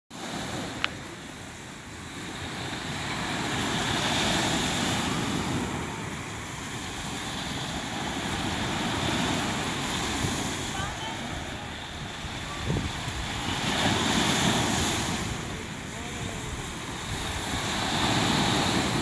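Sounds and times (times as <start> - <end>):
small surf breaking on sand: 0.1 - 19.0
wind rumbling on microphone: 2.2 - 19.0.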